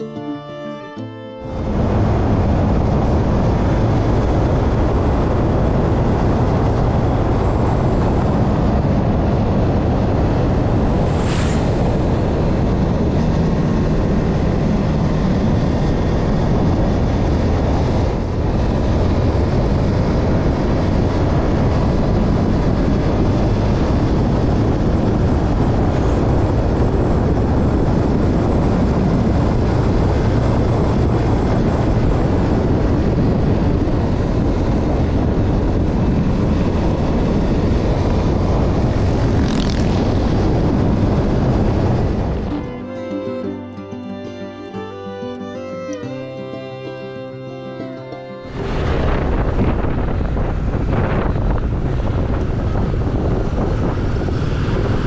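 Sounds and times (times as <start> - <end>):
vehicle road noise at speed: 1.1 - 55.0.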